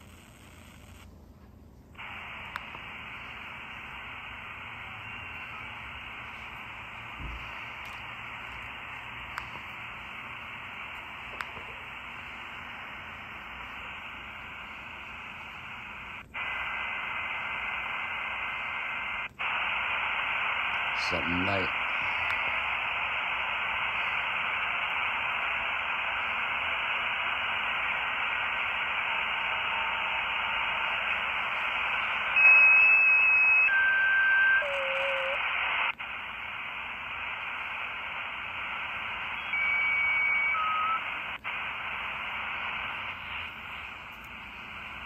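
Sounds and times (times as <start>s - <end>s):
radio static hiss: 0.0s - 1.1s, 2.0s - 45.0s
radio whistles: 2.0s - 45.0s.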